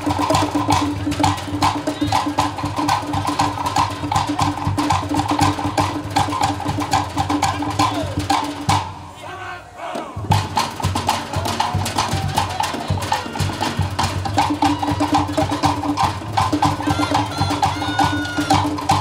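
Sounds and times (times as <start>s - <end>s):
wooden slit drums: 0.0s - 9.2s, 9.9s - 19.0s.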